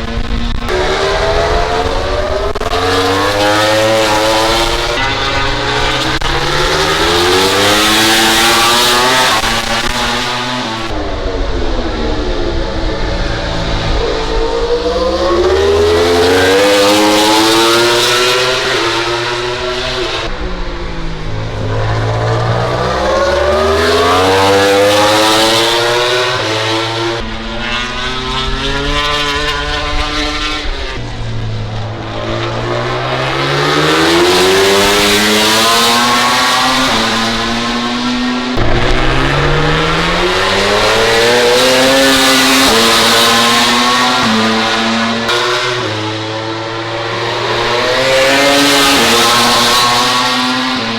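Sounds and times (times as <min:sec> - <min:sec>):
race motorcycles at full throttle: 0:00.0 - 0:50.9.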